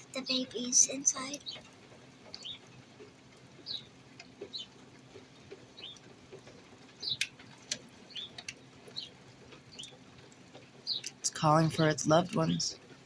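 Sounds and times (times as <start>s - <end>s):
songbird high chirps: 0.1s - 2.7s, 3.5s - 4.8s, 5.6s - 10.1s, 10.8s - 12.8s
sharp clicks: 1.4s - 12.6s.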